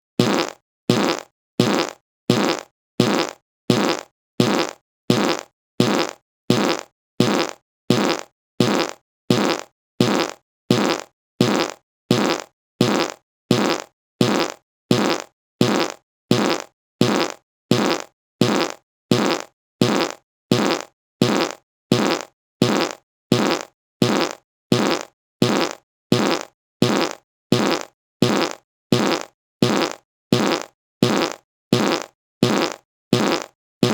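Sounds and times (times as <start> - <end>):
short fart: 0.2 - 33.9.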